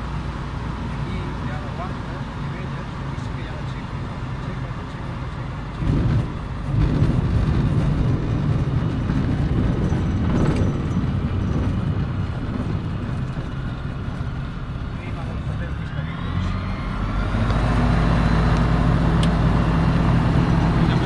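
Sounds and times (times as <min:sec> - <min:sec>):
aircraft engine and airflow rumble: 0:00.0 - 0:21.0.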